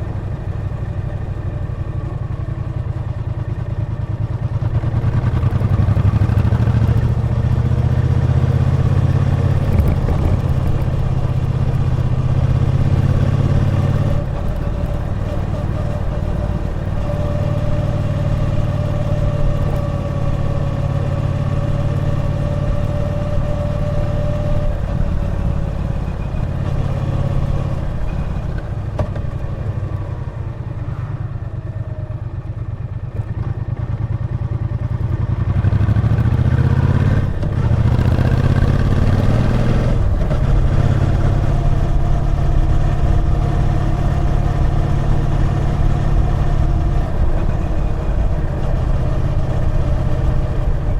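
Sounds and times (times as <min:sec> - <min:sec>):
motorcycle engine revving: 0:04.2 - 0:50.9.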